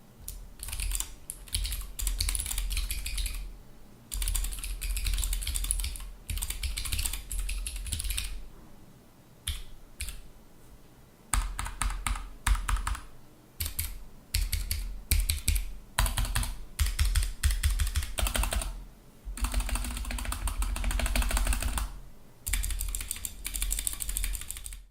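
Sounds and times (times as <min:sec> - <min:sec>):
mechanical keyboard typing: 0:00.3 - 0:03.4, 0:04.1 - 0:08.4, 0:09.4 - 0:10.2, 0:11.3 - 0:18.8, 0:19.4 - 0:24.9.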